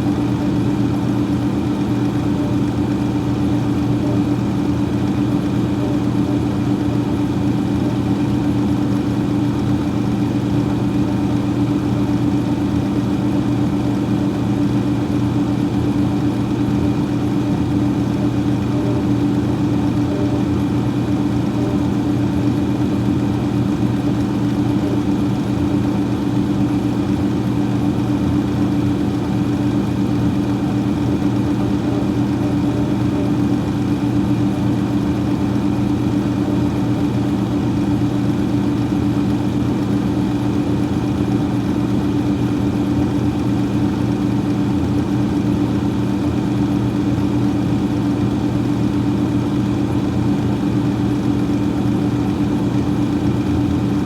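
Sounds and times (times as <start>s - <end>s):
freezer fan humming: 0.0s - 54.0s.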